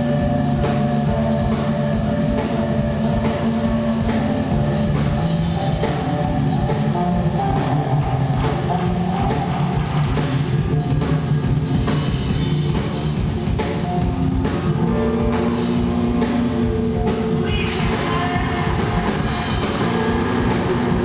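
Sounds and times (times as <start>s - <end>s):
drum kit beat: 0.0s - 21.0s
electric guitar: 0.0s - 21.0s
rock band playing loudly: 0.0s - 21.0s.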